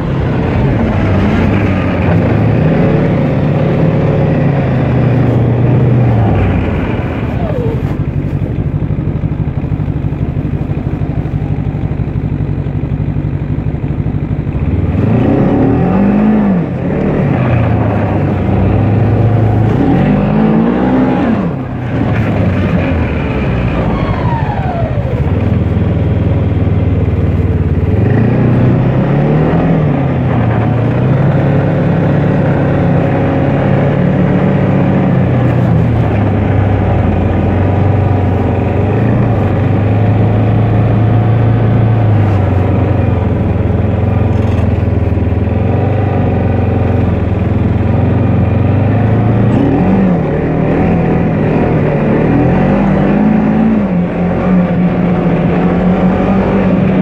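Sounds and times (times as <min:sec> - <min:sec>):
snowmobile engine revving: 0:00.0 - 0:12.2, 0:14.5 - 0:57.0.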